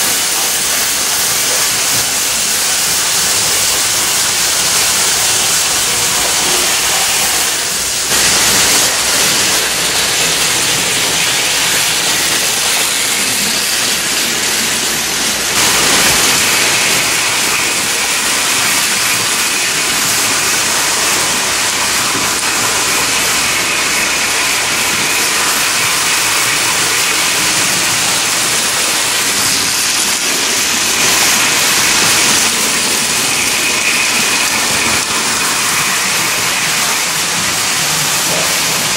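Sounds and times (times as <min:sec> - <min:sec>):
toy trains running on track: 0:00.0 - 0:38.9.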